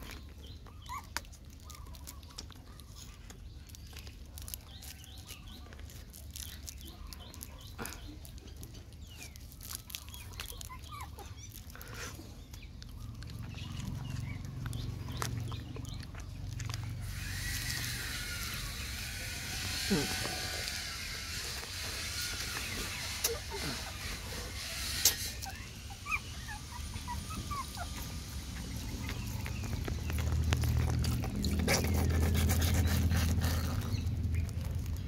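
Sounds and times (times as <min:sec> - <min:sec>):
small animals chirping: 0:00.0 - 0:35.0.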